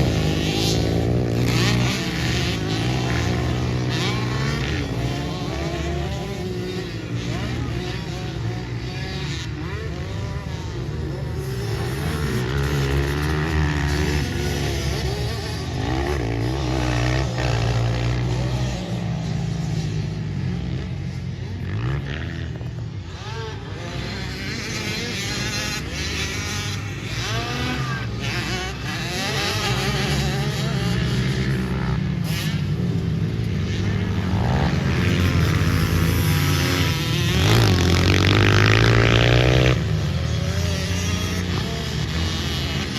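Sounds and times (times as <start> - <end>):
pit bike engines revving: 0.0 - 42.9.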